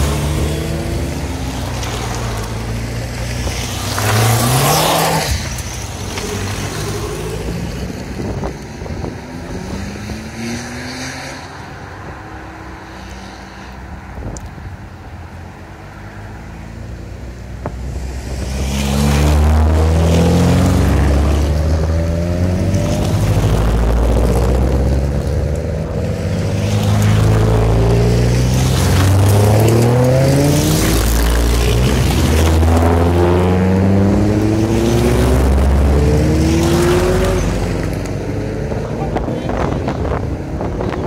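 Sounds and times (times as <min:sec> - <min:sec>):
cars accelerating past: 0:00.0 - 0:14.3, 0:15.8 - 0:41.0.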